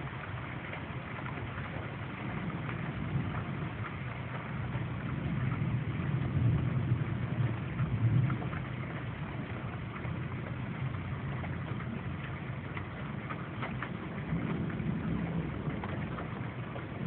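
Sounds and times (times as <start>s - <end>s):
storm rain: 0.0s - 17.0s.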